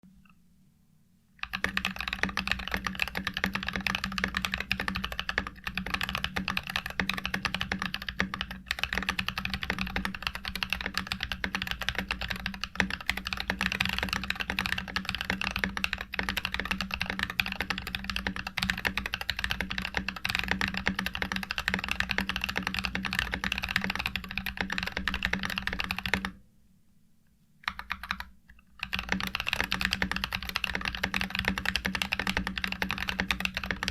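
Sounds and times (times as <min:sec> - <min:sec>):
fast mechanical keyboard typing: 0:01.4 - 0:26.4, 0:27.7 - 0:33.9.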